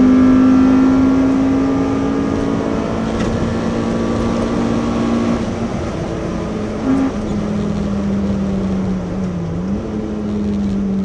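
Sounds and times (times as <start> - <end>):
car engine running hard: 0.0 - 11.0
road and wind noise: 0.0 - 11.0.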